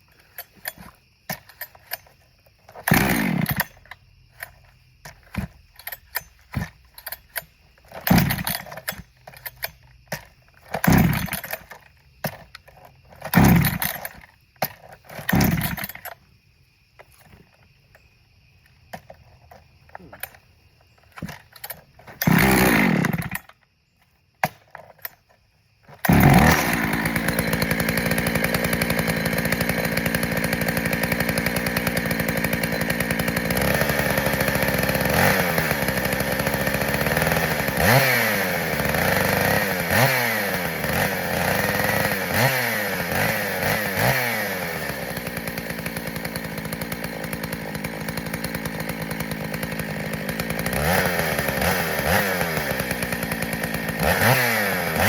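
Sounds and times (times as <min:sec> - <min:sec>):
chainsaw starting and revving: 0:00.1 - 0:16.2, 0:19.9 - 0:23.6, 0:25.8 - 0:55.0.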